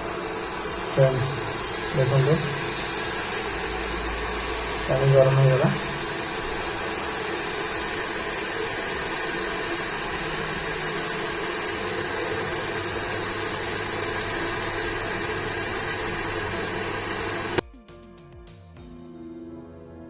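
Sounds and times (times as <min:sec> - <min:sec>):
induction cooker hissing: 0:00.0 - 0:17.6.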